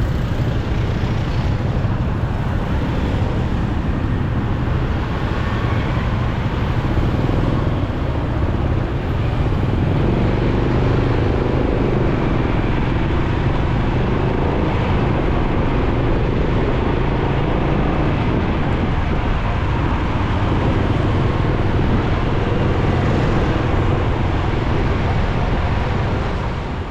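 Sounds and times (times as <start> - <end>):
motorcycle engine running: 0.0 - 26.9
wind on microphone: 0.0 - 26.9.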